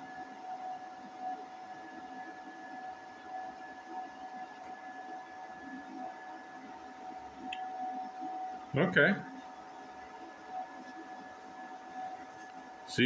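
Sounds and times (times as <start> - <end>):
welding arc hiss and whine: 0.0 - 13.0.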